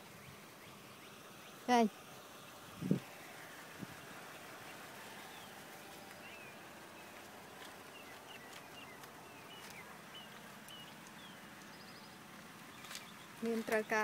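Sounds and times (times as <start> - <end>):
small bird chirping: 0.0 - 14.0
steady outdoor hiss: 0.0 - 14.0.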